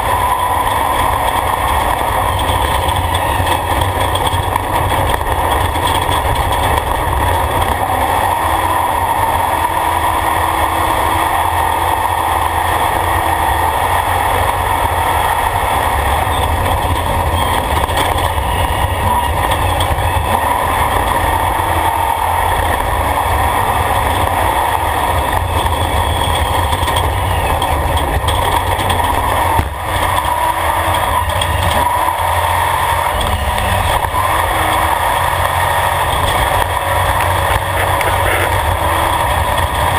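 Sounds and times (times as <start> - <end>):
dirt road noise: 0.0 - 39.9
truck engine revving: 0.0 - 39.9.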